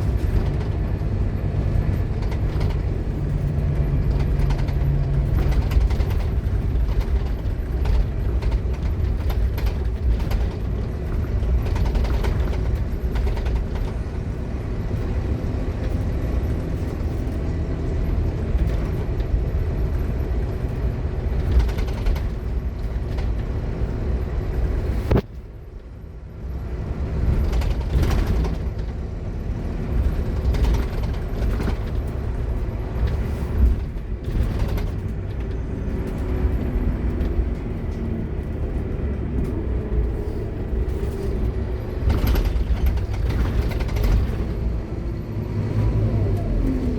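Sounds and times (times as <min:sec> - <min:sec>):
bodywork rattles and creaks: 0:00.0 - 0:46.9
bus engine and gearbox running: 0:00.0 - 0:46.9.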